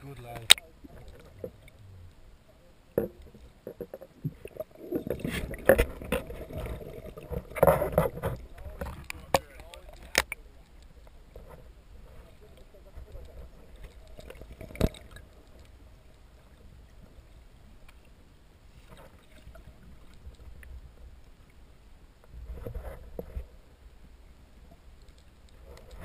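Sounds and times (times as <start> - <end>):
underwater rumble of moving water: 0.0 - 26.0.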